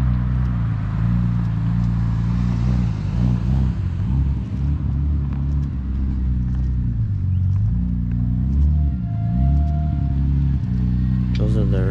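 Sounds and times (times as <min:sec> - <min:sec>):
car engine running at low revs: 0:00.0 - 0:11.9.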